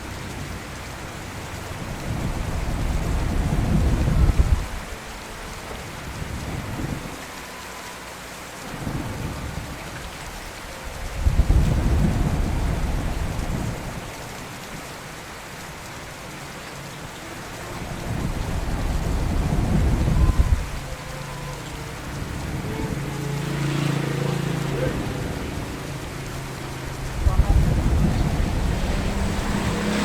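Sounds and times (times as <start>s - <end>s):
thunder rumbling: 0.0s - 7.9s, 8.6s - 30.0s
steady rain: 0.0s - 30.0s.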